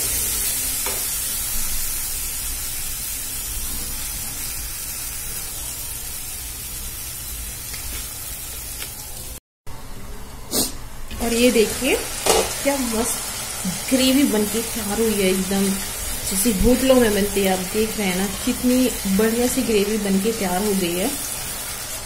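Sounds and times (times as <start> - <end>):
paste sizzling in hot oil: 0.0 - 9.2, 11.2 - 22.0.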